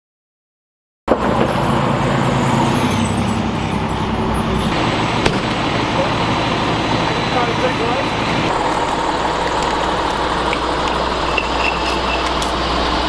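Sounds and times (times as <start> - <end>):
diesel engines idling: 1.1 - 13.0.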